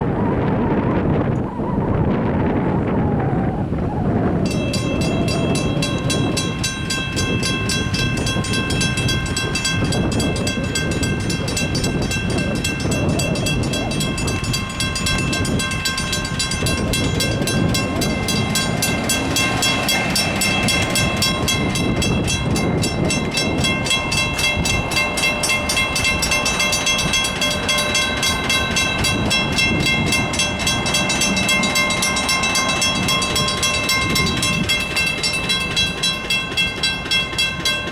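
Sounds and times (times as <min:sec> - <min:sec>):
diesel train rumbling past: 0:02.5 - 0:37.9
crossing bell ringing: 0:04.4 - 0:37.9.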